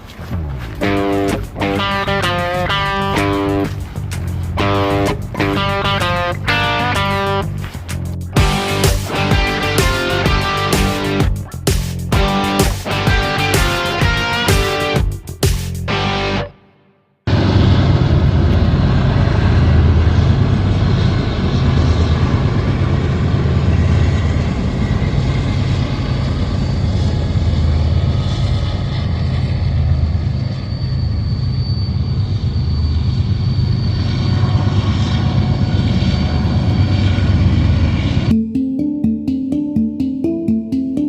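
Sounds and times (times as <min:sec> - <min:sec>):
heavy traffic roar: 0:00.0 - 0:16.6, 0:17.3 - 0:38.3.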